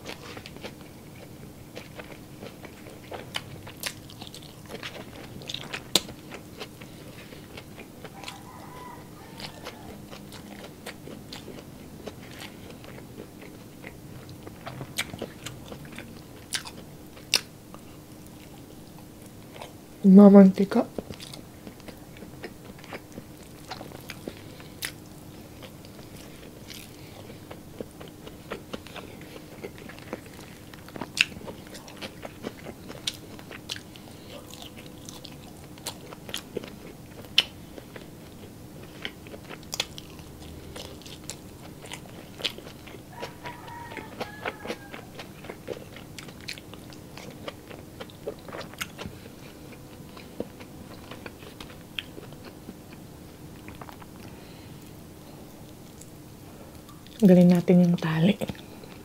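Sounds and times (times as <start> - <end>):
person chewing: 0.0 - 19.8, 20.9 - 59.0
faint steady hum: 0.0 - 59.0.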